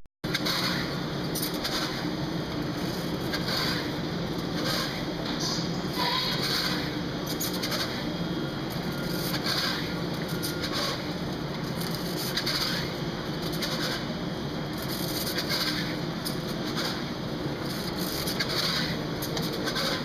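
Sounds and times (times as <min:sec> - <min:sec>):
machine hum: 0:00.2 - 0:20.0.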